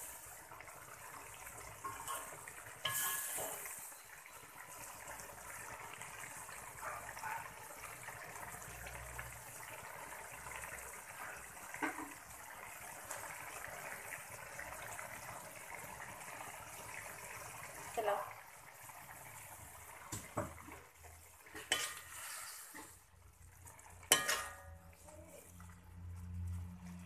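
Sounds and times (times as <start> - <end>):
water bubbling in a wok: 0.0 - 27.0.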